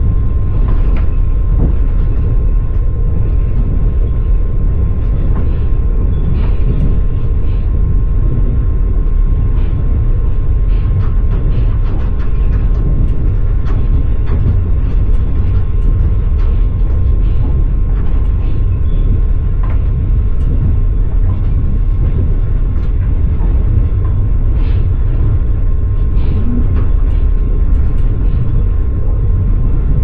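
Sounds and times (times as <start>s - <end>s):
train rumbling inside carriage: 0.0s - 30.0s
wheels clicking on rails: 0.0s - 30.0s.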